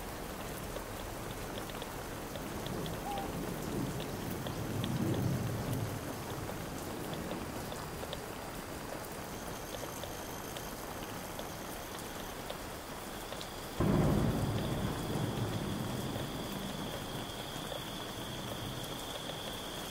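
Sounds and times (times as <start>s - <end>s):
steady rain hiss: 0.0s - 19.9s
drip ticks: 0.4s - 19.9s.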